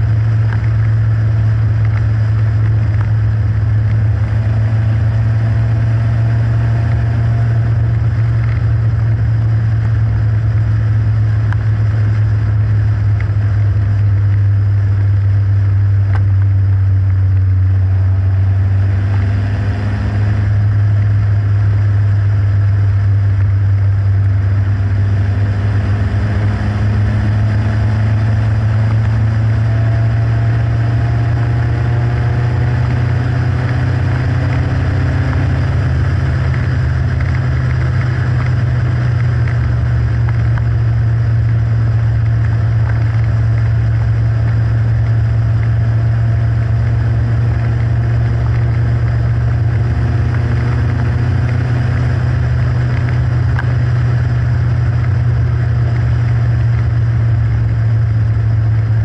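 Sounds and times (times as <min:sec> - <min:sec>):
car engine rumble revving: 0:00.0 - 0:59.0.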